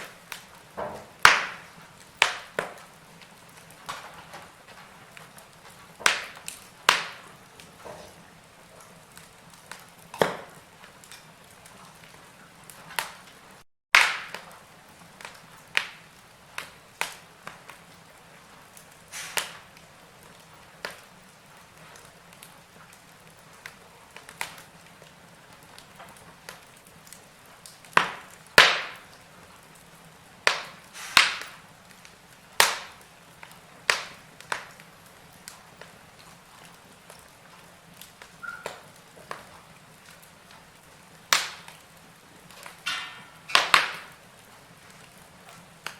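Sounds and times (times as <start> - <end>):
faint steady hiss: 0.0 - 45.9
wood fire crackling: 0.0 - 45.9.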